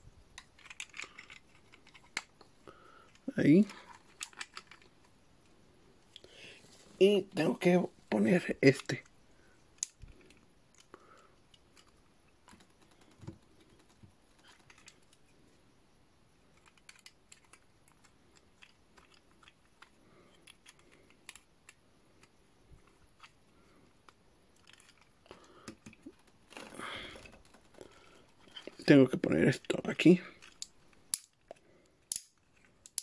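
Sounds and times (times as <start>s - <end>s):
small plastic pieces clicking: 0.3s - 5.1s, 9.7s - 15.2s, 16.5s - 33.0s.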